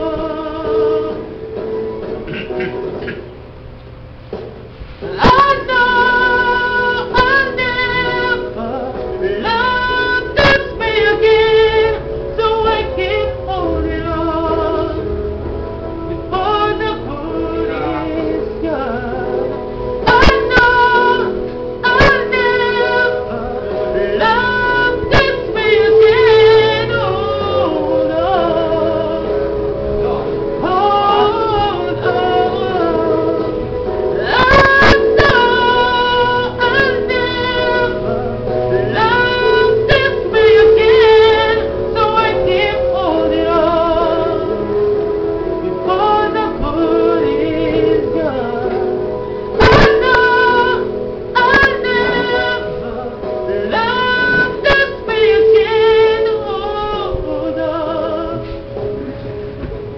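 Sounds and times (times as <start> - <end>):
person singing with vibrato: 0.0 - 3.4, 4.8 - 59.5
instrumental accompaniment: 0.0 - 59.9.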